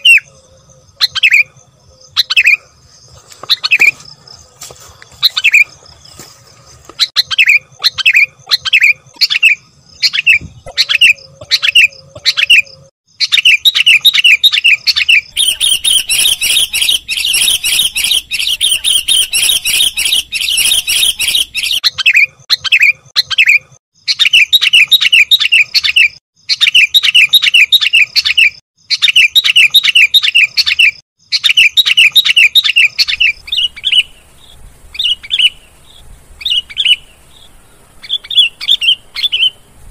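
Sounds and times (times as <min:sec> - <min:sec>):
bulbul chirping: 0:06.9 - 0:39.7.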